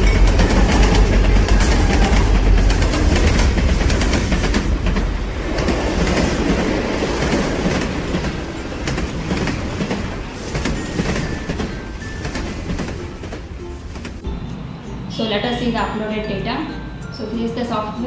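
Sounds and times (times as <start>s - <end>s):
train rumbling on rails: 0.0s - 17.8s.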